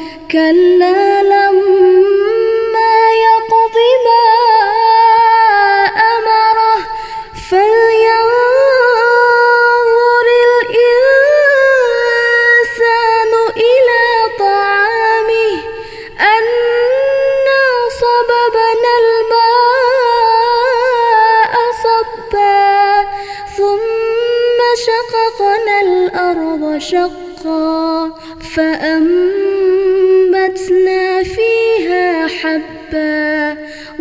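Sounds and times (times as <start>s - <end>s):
woman reciting melodically: 0.0s - 34.0s.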